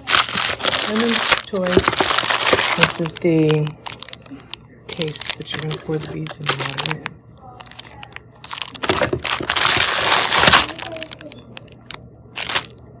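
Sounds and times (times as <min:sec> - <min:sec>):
plastic bags crinkling: 0:00.0 - 0:12.8.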